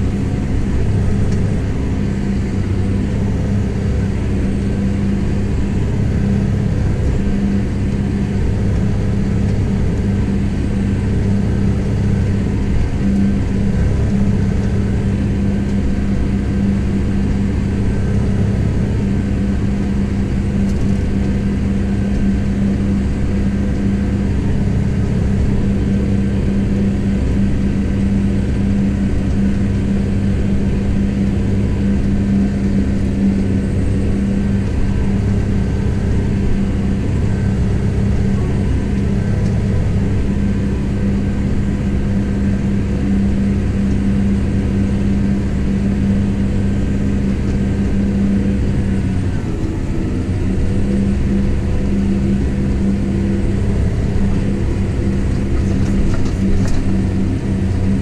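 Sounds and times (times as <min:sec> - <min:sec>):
tractor diesel engine humming: 0:00.0 - 0:58.0.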